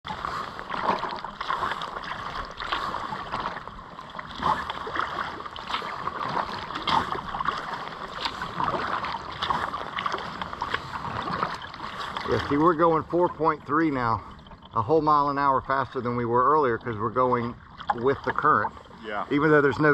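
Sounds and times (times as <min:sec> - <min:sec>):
kayak paddle splashing: 0:00.0 - 0:19.9
moving water: 0:00.0 - 0:19.9.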